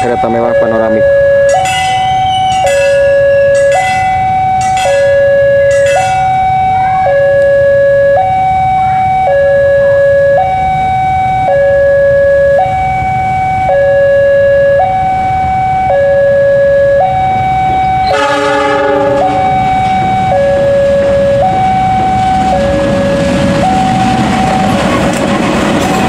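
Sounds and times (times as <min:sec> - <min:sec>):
diesel locomotive rumble: 0:00.0 - 0:26.0
two-tone crossing alarm: 0:00.0 - 0:26.0.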